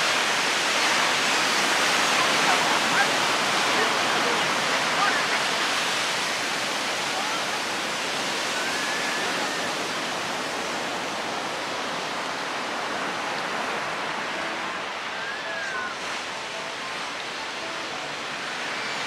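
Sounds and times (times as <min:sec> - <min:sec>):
ocean waves washing on beach: 0:00.0 - 0:19.0.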